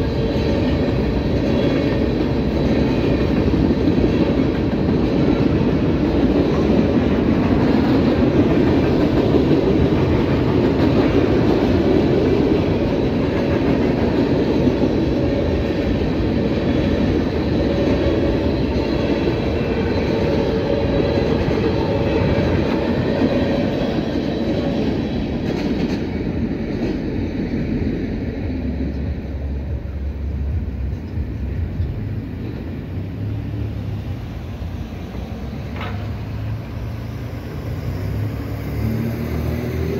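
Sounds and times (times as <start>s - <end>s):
freight cars rumbling over crossing: 0.0s - 39.9s.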